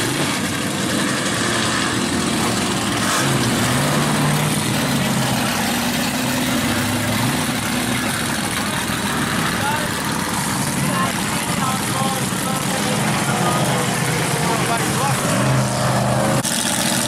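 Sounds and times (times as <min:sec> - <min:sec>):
buggy engine running hard: 0:00.0 - 0:17.0.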